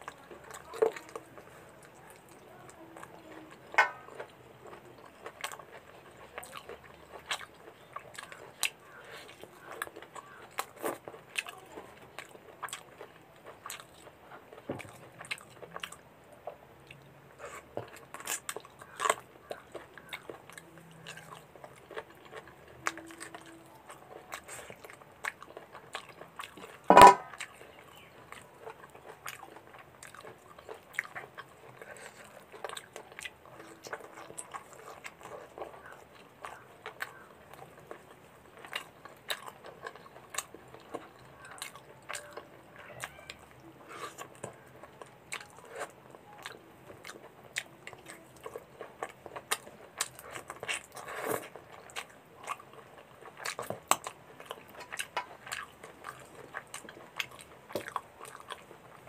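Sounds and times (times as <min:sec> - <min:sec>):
wet chewing: 0:00.0 - 0:59.0.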